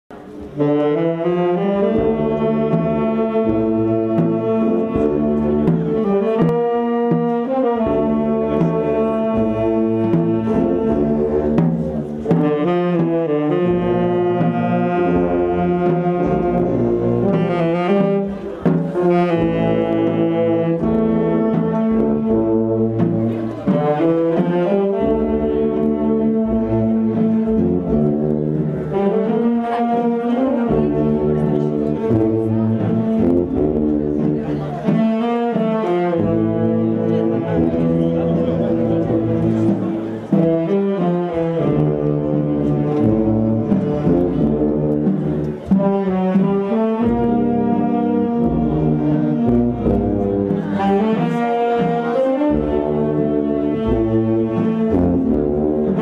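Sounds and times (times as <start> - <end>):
brass band playing slow piece: 0.1 - 56.0.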